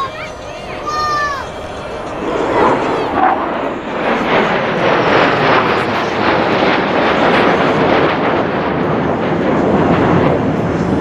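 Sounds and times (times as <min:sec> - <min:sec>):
jet engines rumbling overhead: 0:00.0 - 0:11.0.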